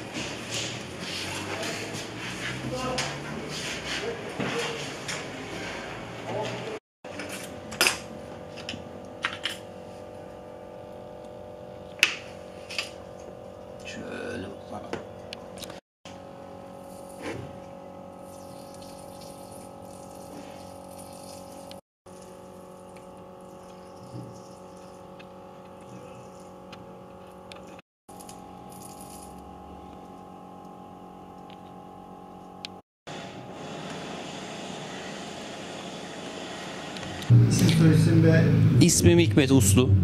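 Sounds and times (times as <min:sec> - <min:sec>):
steady workshop hum tones: 0:00.0 - 0:40.0.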